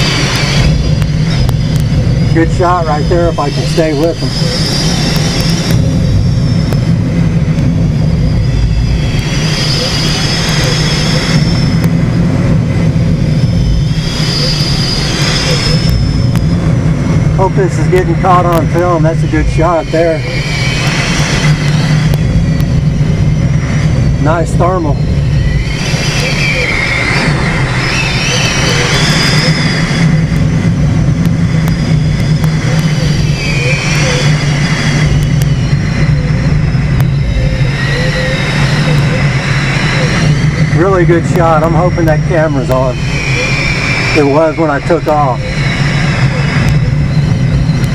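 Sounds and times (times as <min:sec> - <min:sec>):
small aircraft engine drone: 0:00.0 - 0:47.9
thin high whine: 0:00.0 - 0:47.9
wind rushing over microphone: 0:00.0 - 0:47.9.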